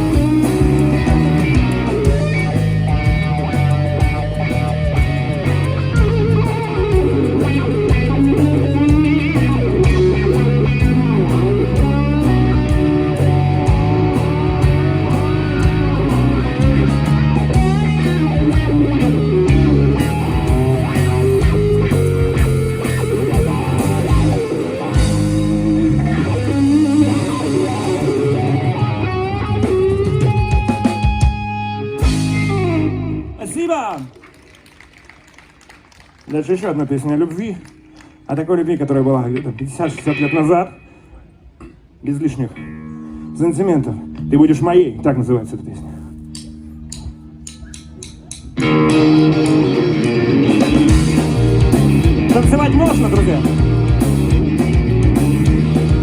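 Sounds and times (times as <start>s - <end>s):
drums: 0.0s - 38.3s, 45.8s - 56.0s
bass guitar: 0.0s - 56.0s
electric guitar lead: 0.0s - 56.0s.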